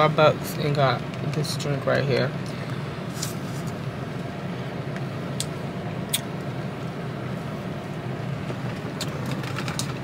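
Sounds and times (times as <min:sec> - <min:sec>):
car cabin hum: 0:00.0 - 0:10.0.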